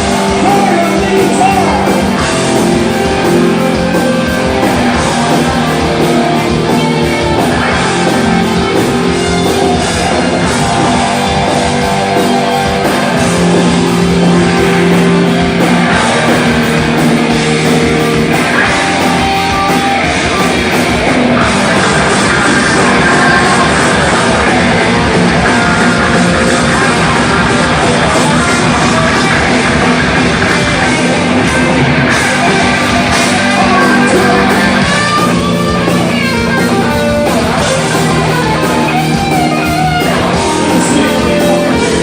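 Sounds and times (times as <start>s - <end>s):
drum kit: 0.0s - 42.0s
electric guitars sustained notes: 0.0s - 42.0s
live rock band: 0.0s - 42.0s.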